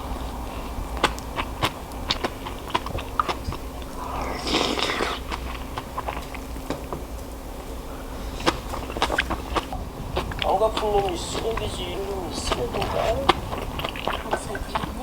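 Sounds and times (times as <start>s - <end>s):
chewing: 0.0s - 15.0s
crunching rustle: 0.0s - 15.0s.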